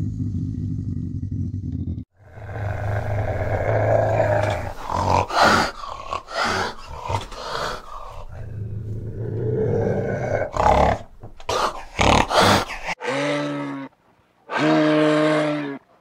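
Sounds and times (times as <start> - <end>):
cat growling: 0.0 - 13.0.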